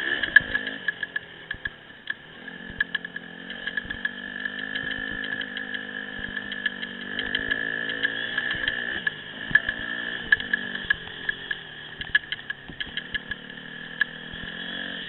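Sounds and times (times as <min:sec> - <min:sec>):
dirt bike engine revving: 0:00.0 - 0:15.0
sharp clicks and knocks: 0:00.2 - 0:15.0
high-pitched whine: 0:01.6 - 0:15.0.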